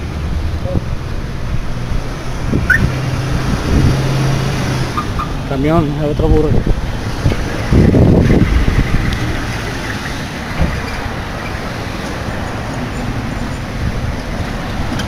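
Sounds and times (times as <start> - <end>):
passing road traffic: 0.0 - 15.0.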